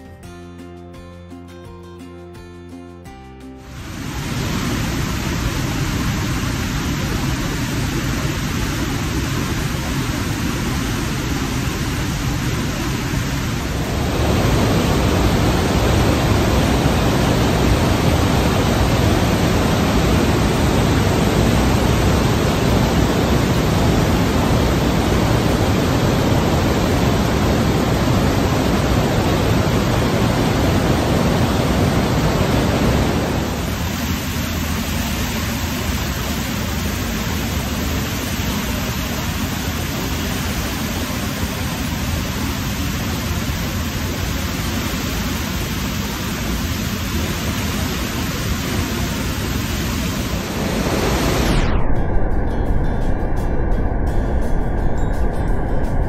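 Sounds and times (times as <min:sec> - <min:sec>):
waterfall roaring: 0:03.6 - 0:51.6.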